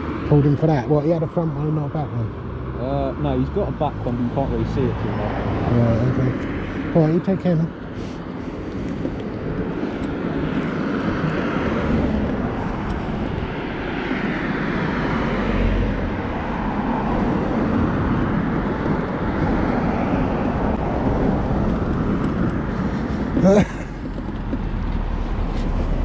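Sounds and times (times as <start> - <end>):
vehicle noise rumble: 0.0 - 26.0.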